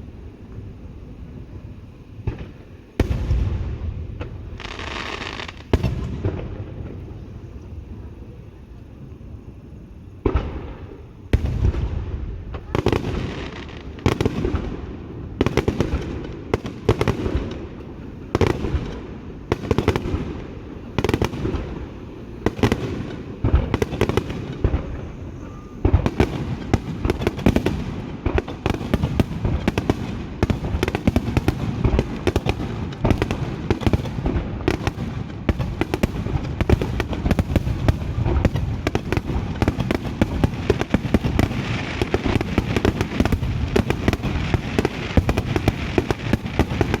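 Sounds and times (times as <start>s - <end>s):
fireworks booming and crackling: 0.0s - 47.0s.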